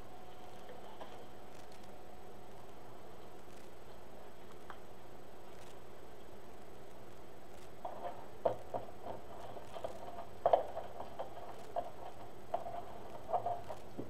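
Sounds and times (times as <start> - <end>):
glitter fabric crinkling: 0.0 - 14.0.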